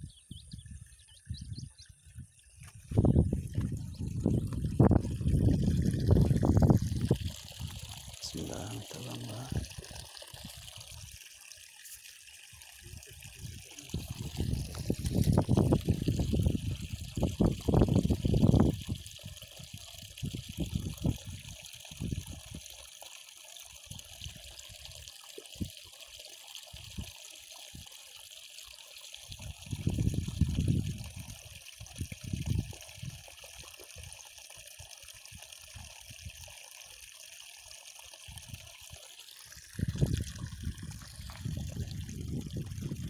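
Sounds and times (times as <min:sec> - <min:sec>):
water trickling: 0:00.0 - 0:43.0.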